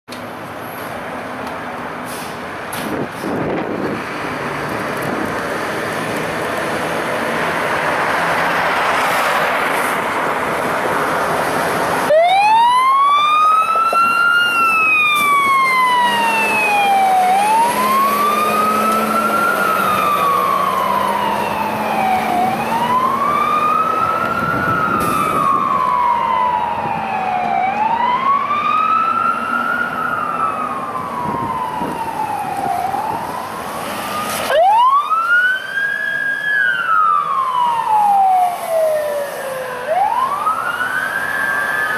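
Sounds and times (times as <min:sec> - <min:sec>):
fire truck road and engine noise: 0:00.1 - 0:41.9
fire truck siren wailing: 0:02.1 - 0:41.9.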